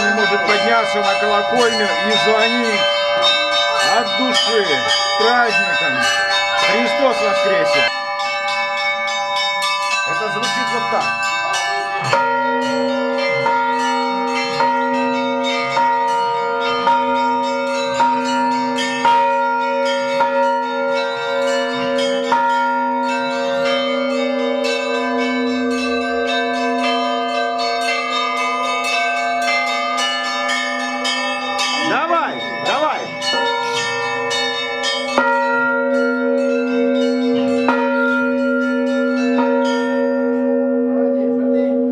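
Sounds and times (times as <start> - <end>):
deep bell strokes ringing: 0.0 - 41.9
small bells rapid strikes: 0.0 - 41.9.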